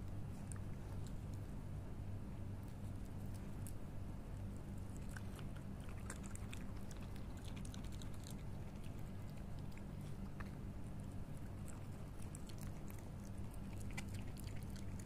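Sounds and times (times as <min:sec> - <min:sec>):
animal chewing and crunching: 0:00.0 - 0:01.7, 0:02.5 - 0:15.0
steady low hum: 0:00.0 - 0:15.0.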